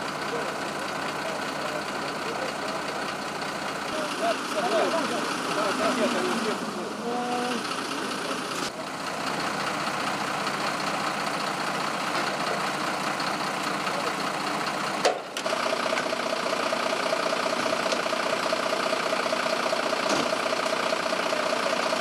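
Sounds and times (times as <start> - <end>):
engines idling: 0.0 - 22.0.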